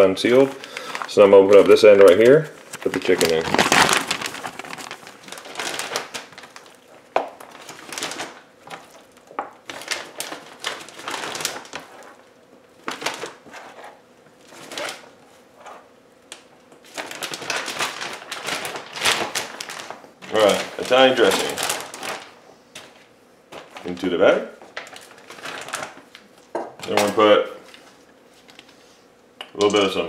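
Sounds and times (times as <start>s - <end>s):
plastic bag crinkling: 0.0s - 28.8s.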